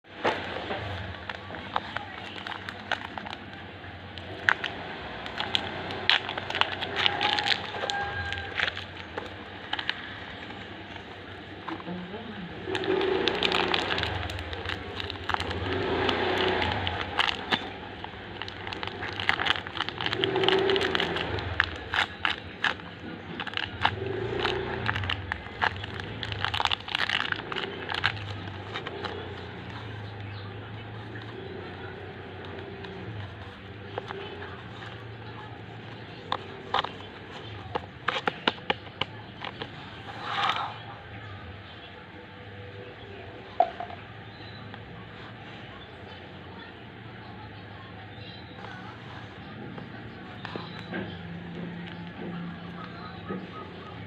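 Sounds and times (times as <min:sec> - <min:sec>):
small clicks and crackles: 0:00.2 - 0:11.9, 0:12.6 - 0:40.8, 0:48.6 - 0:54.0.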